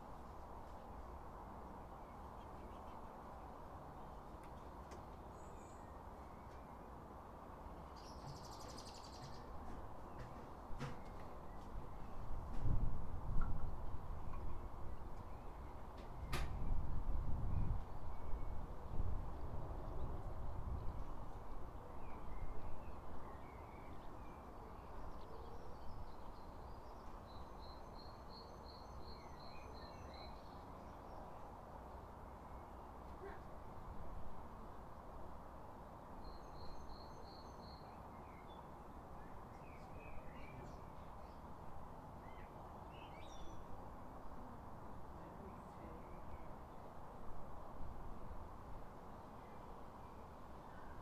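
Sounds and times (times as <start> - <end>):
songbirds chirping: 0.1 - 47.1.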